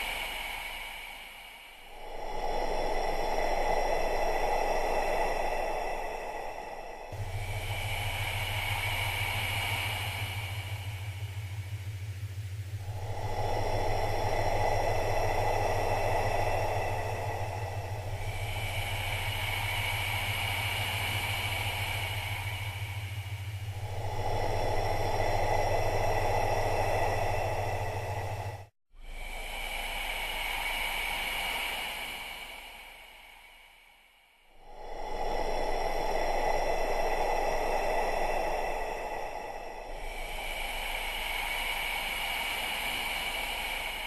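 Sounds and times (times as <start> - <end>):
slow breathing: 0.0 - 44.0
low hum: 1.6 - 30.9, 34.5 - 44.0.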